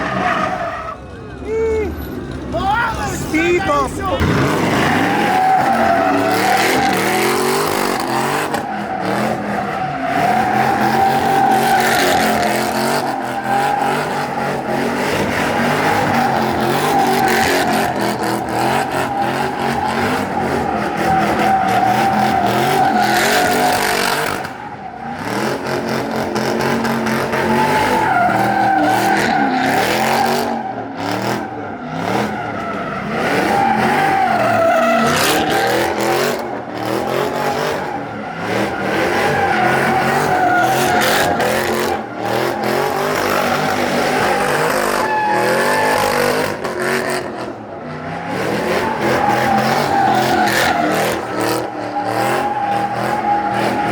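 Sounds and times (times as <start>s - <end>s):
car engines revving hard: 0.0s - 53.9s
car tires squealing: 0.0s - 53.9s.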